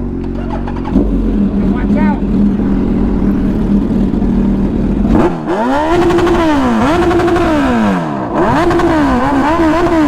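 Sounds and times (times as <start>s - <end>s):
engine idling and revving: 0.0s - 10.0s.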